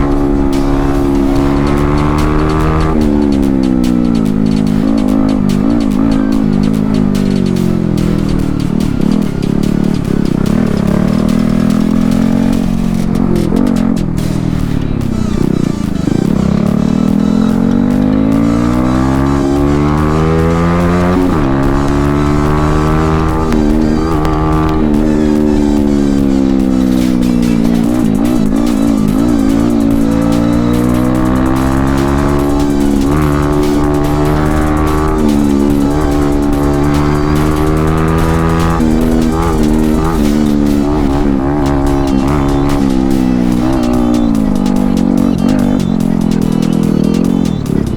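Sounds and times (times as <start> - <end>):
background music: 0.0 - 47.9
motorcycle engine accelerating: 0.0 - 47.9.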